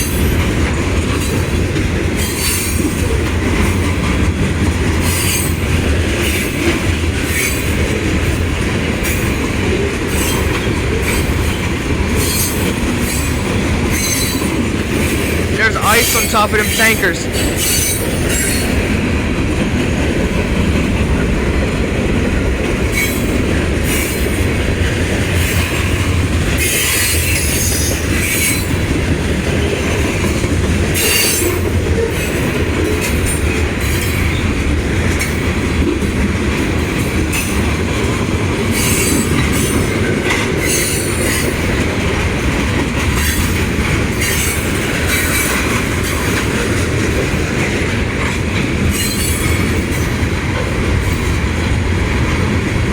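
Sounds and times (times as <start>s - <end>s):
steel wheels rumbling on rail: 0.0s - 52.9s
train cars clattering: 0.0s - 52.9s.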